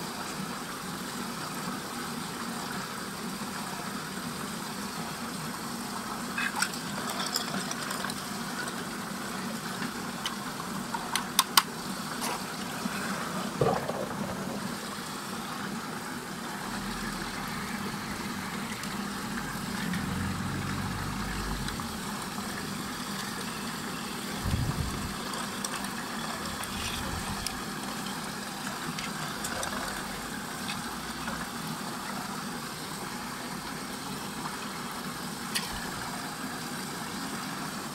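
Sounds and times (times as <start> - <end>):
steady mechanical hum: 0.0 - 37.9
water churning in a whirlpool: 0.0 - 37.9.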